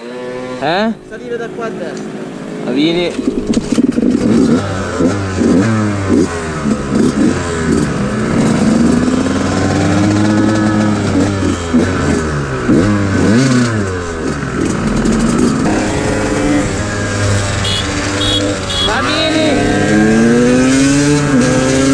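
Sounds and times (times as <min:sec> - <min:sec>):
moped engine revving: 0:00.0 - 0:21.9.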